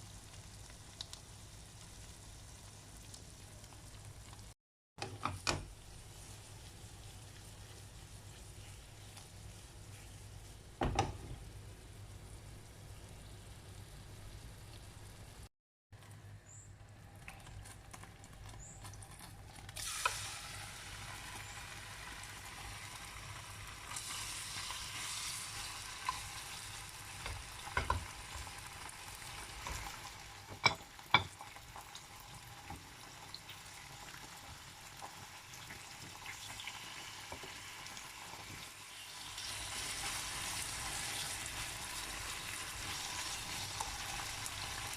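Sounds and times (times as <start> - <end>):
food sizzling in a pan: 0.0 - 15.5, 17.6 - 44.9.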